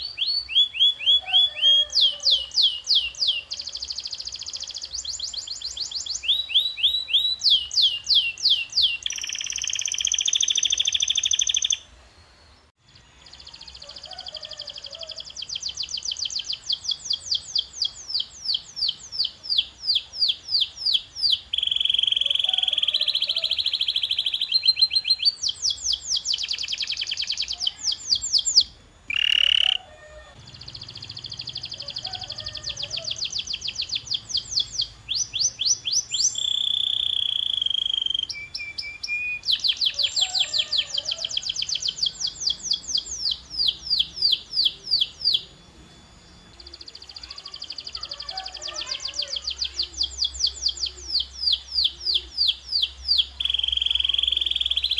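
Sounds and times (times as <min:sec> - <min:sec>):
canary singing: 0:00.0 - 0:11.9, 0:12.9 - 0:54.9.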